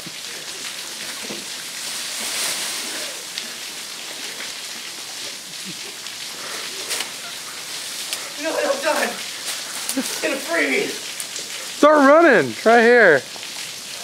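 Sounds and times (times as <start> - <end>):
falling water hissing: 0.0 - 14.0
water splashes: 0.0 - 14.0.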